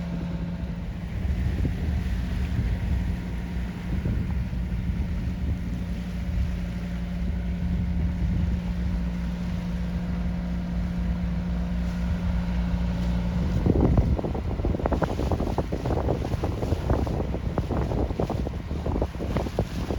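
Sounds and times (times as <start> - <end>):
boat diesel engine running: 0.0 - 19.9
wind buffeting microphone: 0.0 - 19.9.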